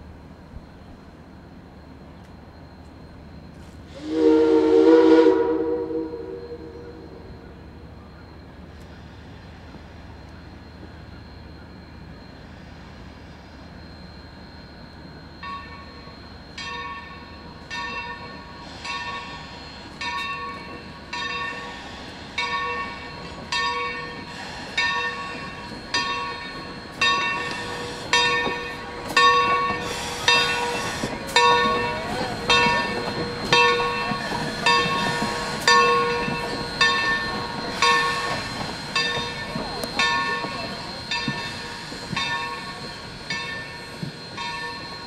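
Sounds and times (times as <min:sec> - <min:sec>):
locomotive bell ringing: 0:00.0 - 0:45.0
low rumble of approaching train: 0:00.0 - 0:45.0.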